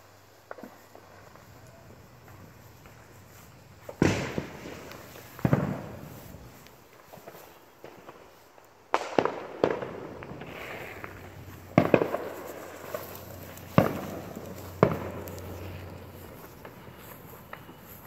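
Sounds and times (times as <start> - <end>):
fireworks bangs with echo: 0.5 - 17.9.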